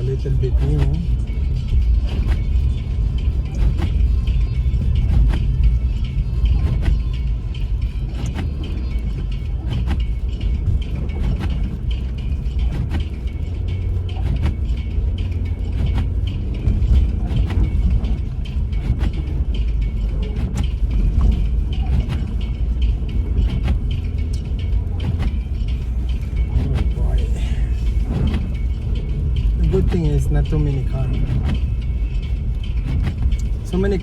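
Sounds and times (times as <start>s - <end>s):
car engine and tyres rumbling: 0.0s - 34.0s
clicks and creaks in car: 0.0s - 34.0s.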